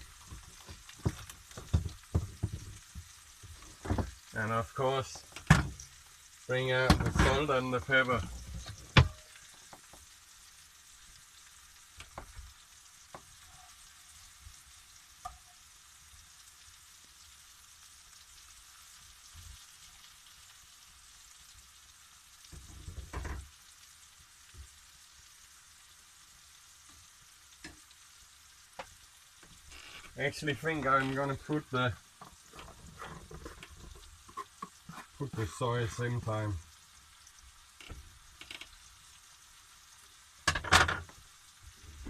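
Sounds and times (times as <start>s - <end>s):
mushrooms sizzling in a frying pan: 0.0s - 42.0s.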